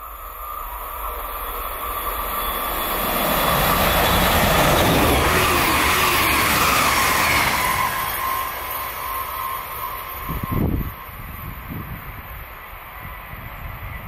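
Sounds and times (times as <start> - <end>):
train wheels rushing on rail: 0.0 - 14.0.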